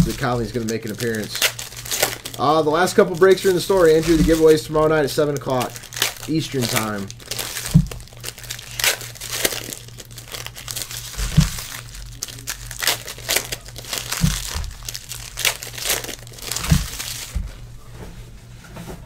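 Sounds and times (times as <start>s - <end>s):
foil packs crinkling and tearing: 0.0s - 17.5s
low steady hum: 0.0s - 19.0s.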